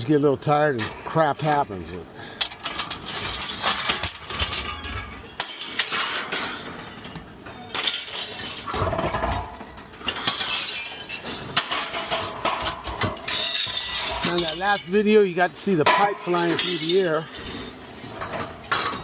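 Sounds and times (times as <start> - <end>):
scrap metal clattering: 0.7 - 19.0.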